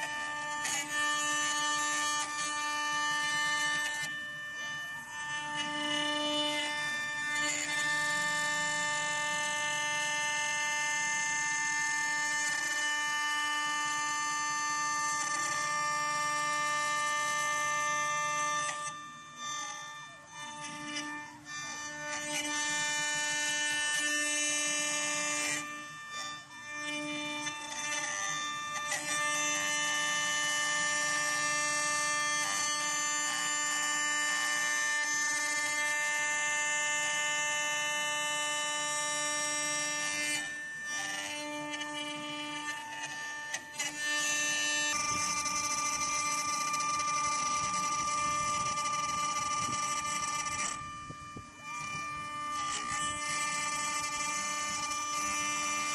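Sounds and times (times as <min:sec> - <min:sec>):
router spindle whining: 0:00.0 - 0:55.9.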